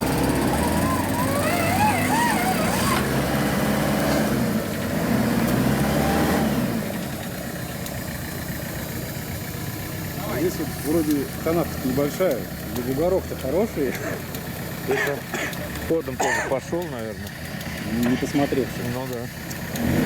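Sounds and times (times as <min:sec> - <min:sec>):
engine running under load: 0:00.0 - 0:20.0.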